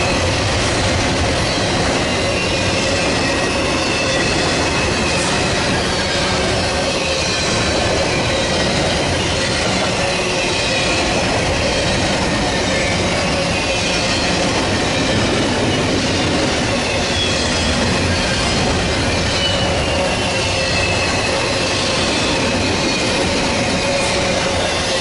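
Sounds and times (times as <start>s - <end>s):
freight train rumble and clatter: 0.0s - 25.0s.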